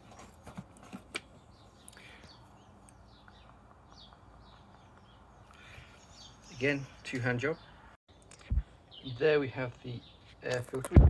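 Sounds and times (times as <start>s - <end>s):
small bird chirping: 1.4s - 10.7s.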